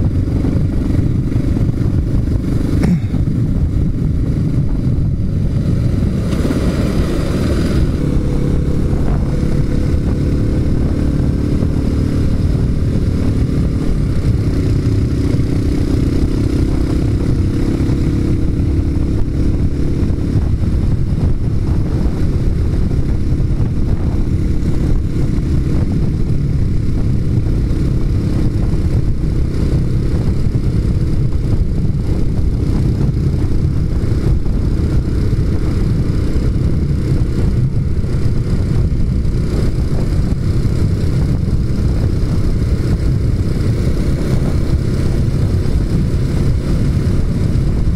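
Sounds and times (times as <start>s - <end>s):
motorcycle engine running: 0.0s - 47.9s
wind and road noise rumble: 0.0s - 47.9s.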